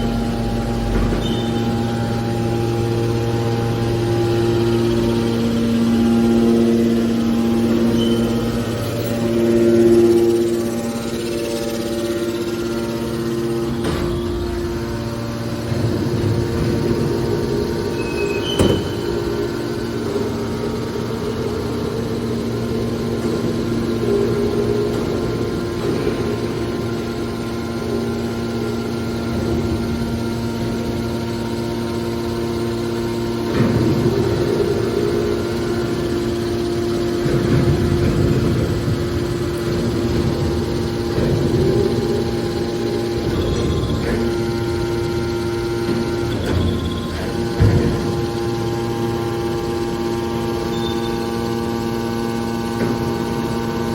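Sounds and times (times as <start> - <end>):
scrap baler machine hum: 0.0 - 53.9.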